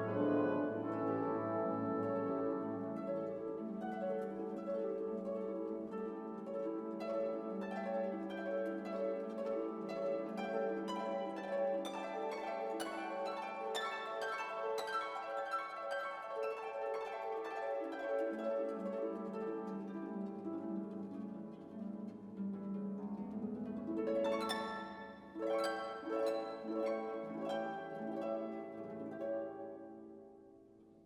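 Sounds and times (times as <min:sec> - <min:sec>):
plucked instrumental music: 0:00.0 - 0:30.2.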